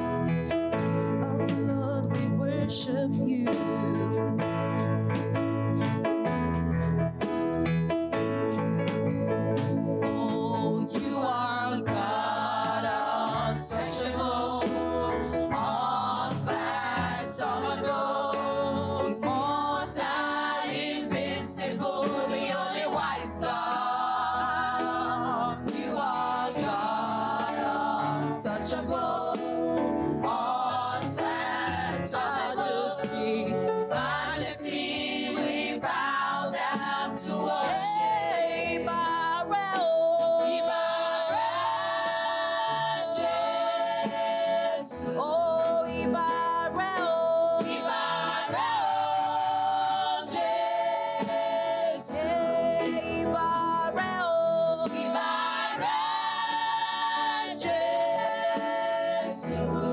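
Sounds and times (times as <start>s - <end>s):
women's choir singing gospel: 0.0s - 59.9s.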